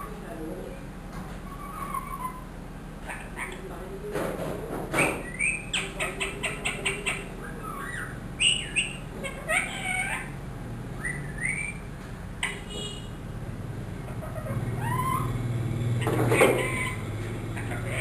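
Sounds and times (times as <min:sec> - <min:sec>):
parakeet chirping and squawking: 0:01.4 - 0:03.7, 0:04.9 - 0:13.2, 0:14.0 - 0:18.0.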